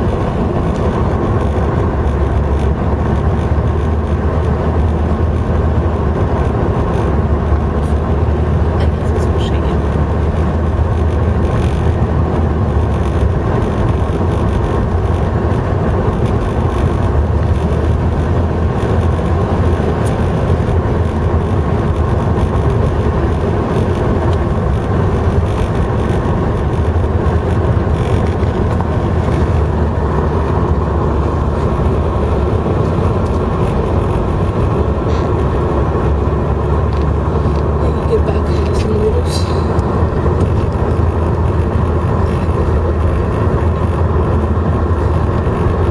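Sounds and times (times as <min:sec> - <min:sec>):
car road noise: 0:00.0 - 0:45.9
heavy low rumble: 0:00.0 - 0:45.9.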